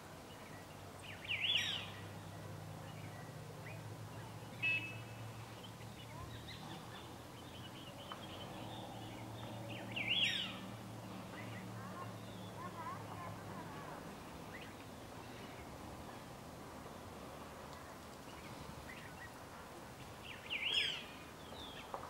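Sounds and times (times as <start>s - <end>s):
wild birds calling: 0.5s - 16.3s, 20.0s - 22.0s.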